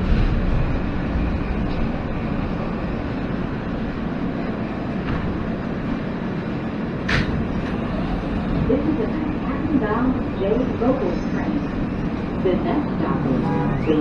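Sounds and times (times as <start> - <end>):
subway car rumble: 0.0 - 14.0.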